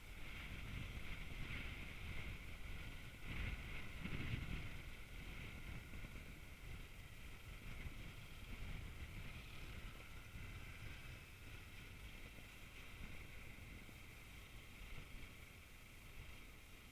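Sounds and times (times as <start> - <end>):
steady low rumble: 0.0 - 16.9
wind on microphone: 0.0 - 16.9.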